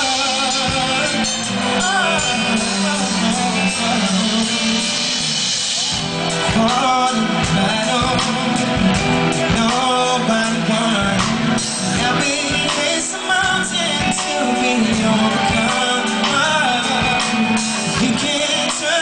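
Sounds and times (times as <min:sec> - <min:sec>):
man singing: 0:00.0 - 0:05.6, 0:06.2 - 0:19.0
live band playing: 0:00.0 - 0:19.0.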